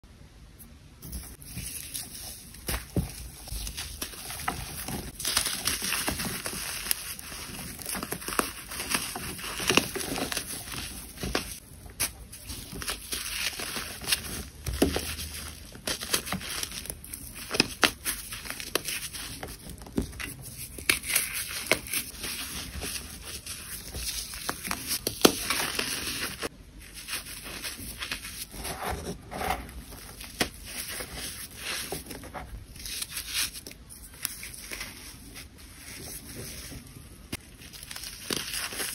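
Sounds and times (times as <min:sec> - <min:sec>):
gritty crunching and crumbling: 0:01.3 - 0:35.3.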